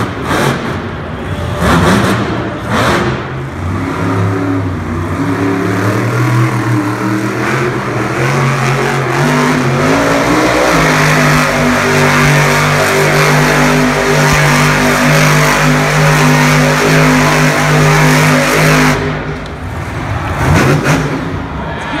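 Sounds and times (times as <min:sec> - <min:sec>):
truck engine revving hard: 0:00.0 - 0:21.9.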